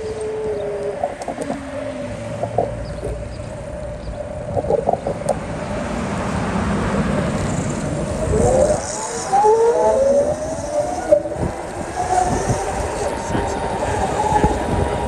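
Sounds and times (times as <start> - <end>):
vehicle passing: 0.0 - 15.0
vehicle pulling away with whine: 0.0 - 15.0.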